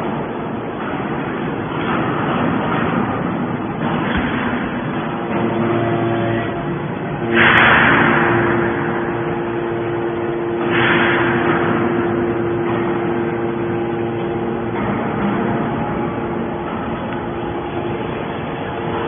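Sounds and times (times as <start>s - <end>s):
baler machine hum: 0.0s - 19.0s.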